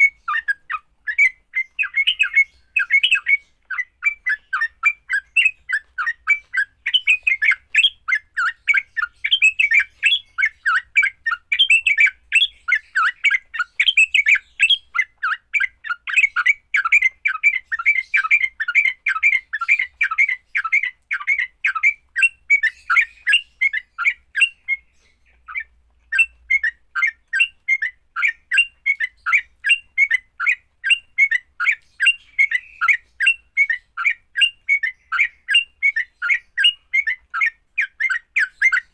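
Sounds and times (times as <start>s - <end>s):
bulbul chattering call: 0.0s - 38.9s.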